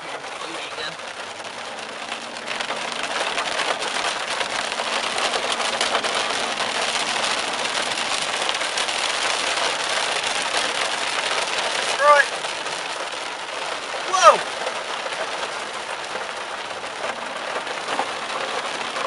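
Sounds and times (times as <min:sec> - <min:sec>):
heavy rain on car roof: 0:00.0 - 0:19.0.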